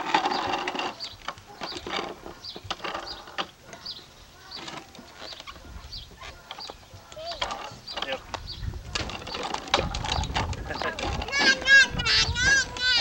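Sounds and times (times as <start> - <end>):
plastic tricycle wheels rattling: 0.0 - 13.0.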